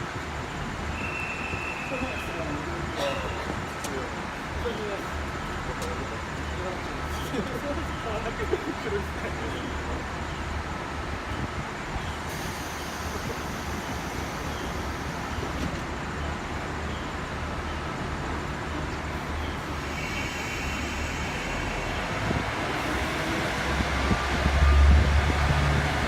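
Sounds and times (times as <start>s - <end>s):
diesel railcar engine rumbling: 0.0s - 26.0s.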